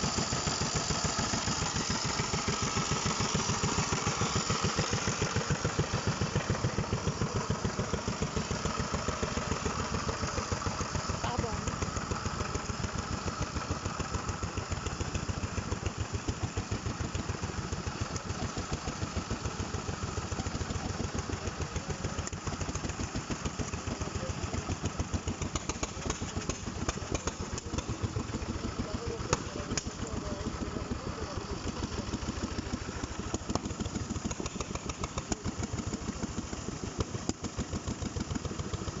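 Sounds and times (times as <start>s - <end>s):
engine chugging: 0.0s - 39.0s.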